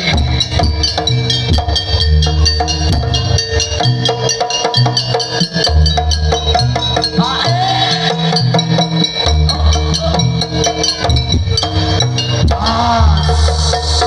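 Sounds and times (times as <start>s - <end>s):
drums and clicking percussion: 0.0s - 14.0s
ringing metal tones: 0.0s - 14.0s
wavering melodic line: 0.0s - 14.0s.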